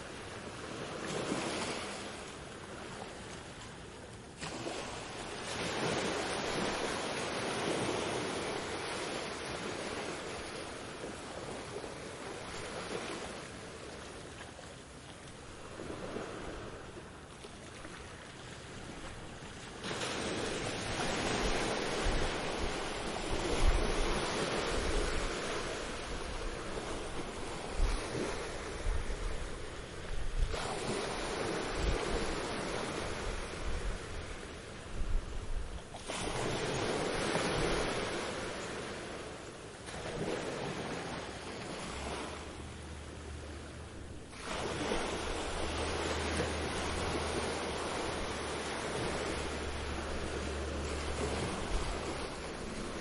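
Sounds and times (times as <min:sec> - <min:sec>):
low rumble of surf: 0:00.0 - 0:53.0
ocean waves breaking on beach: 0:00.0 - 0:53.0.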